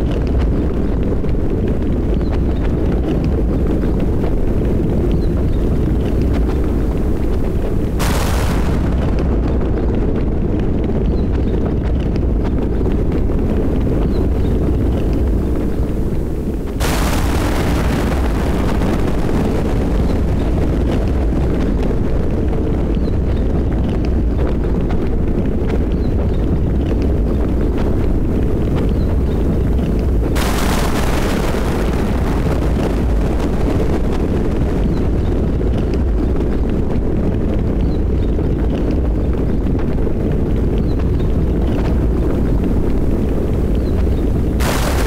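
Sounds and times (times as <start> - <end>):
crackling hiss: 0.0 - 23.9, 27.0 - 36.8, 40.6 - 45.0
steady rain: 0.0 - 45.0
thunder rumbling: 0.0 - 45.0.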